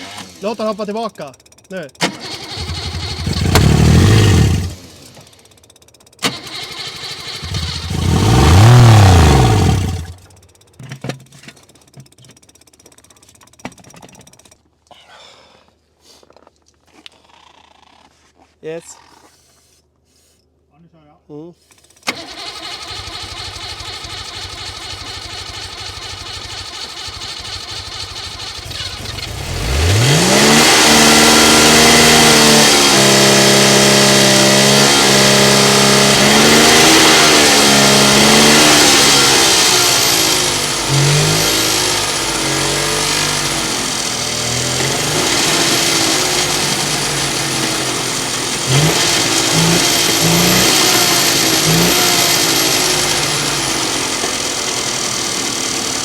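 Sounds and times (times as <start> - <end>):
two-stroke car engine starting and idling: 0.0 - 14.5, 21.8 - 56.0.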